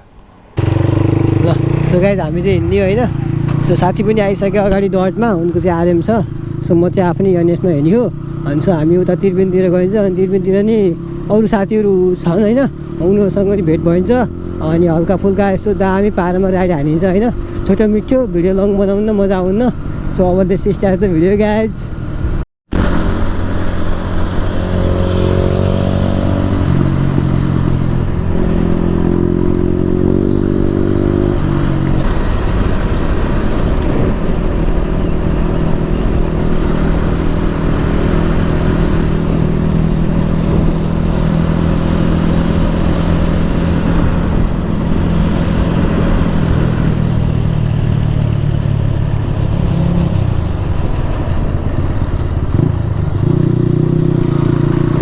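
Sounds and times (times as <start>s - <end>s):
motorcycle engine running: 0.0s - 21.0s, 21.9s - 55.0s.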